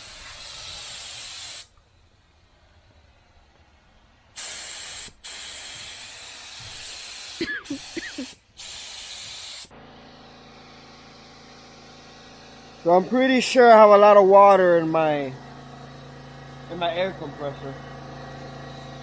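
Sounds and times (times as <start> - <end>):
air compressor motor humming: 0.0 - 1.7, 4.4 - 19.0
spray gun hissing bursts: 0.0 - 1.8, 4.4 - 19.0.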